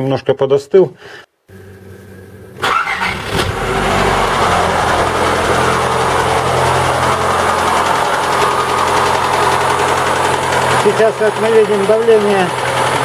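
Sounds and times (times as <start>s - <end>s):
car engine starting and idling: 1.5s - 13.0s.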